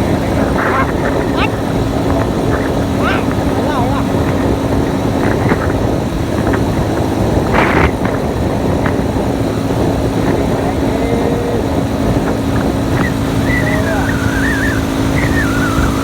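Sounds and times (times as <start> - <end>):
motorcycle engine drone: 0.0 - 16.0
wind rumble: 0.0 - 16.0.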